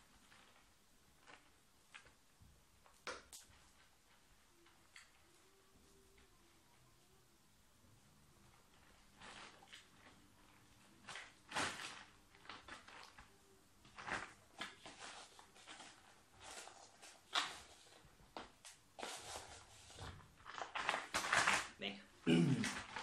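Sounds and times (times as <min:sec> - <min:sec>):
rustling of soil and plastic: 0:00.0 - 0:06.6, 0:08.3 - 0:23.0.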